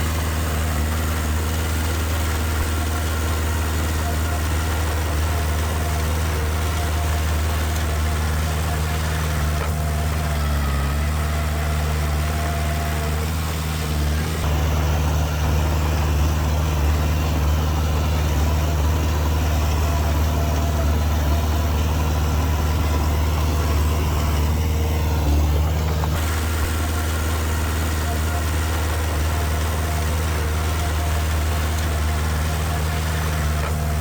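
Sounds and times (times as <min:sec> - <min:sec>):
heavy machinery diesel engine: 0:00.0 - 0:34.0.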